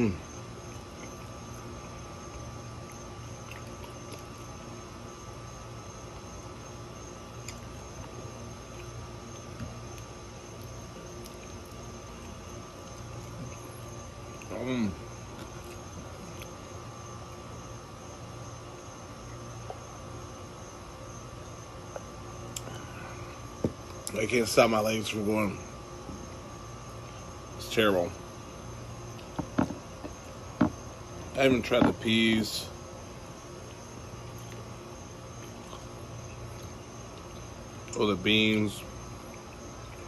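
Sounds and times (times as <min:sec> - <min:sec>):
steady hum and hiss: 0:00.0 - 0:40.0.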